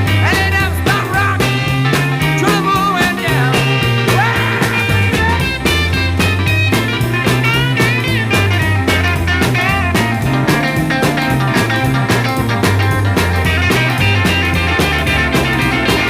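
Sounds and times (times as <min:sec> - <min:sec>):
electric lead guitar: 0:00.0 - 0:16.0
steady drum beat: 0:00.0 - 0:16.0
walking bass line: 0:00.0 - 0:16.0.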